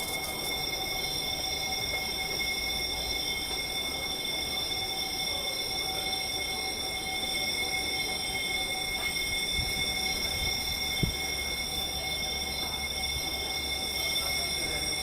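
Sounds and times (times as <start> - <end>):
electric alarm bell ringing: 0.0 - 15.0.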